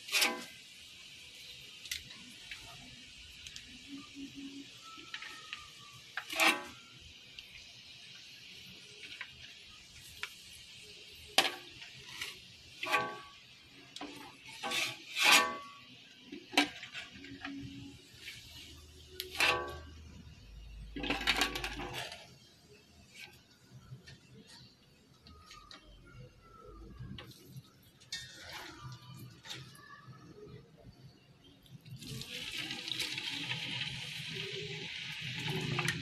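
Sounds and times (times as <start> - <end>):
meat deep-frying in oil: 0.0 - 26.0, 26.6 - 36.0.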